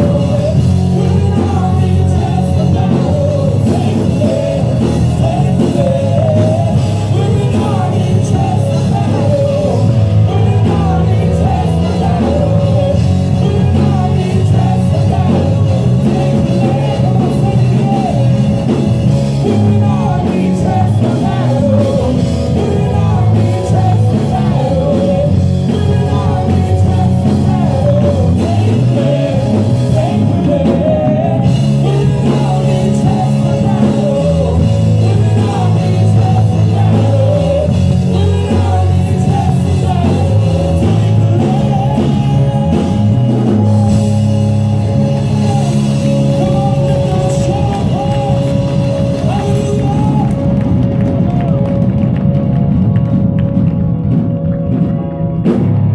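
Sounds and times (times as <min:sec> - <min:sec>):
rock music with singing: 0:00.0 - 0:55.9.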